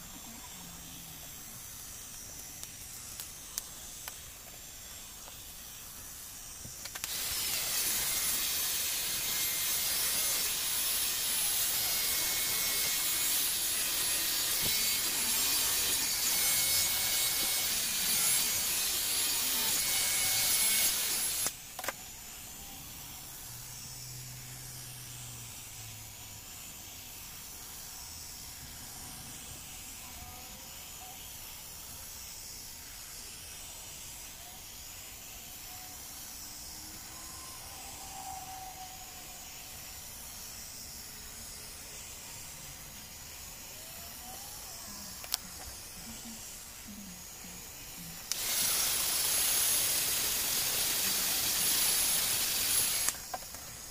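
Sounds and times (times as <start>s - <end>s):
electric air blower running: 0.0s - 34.1s, 36.3s - 53.9s.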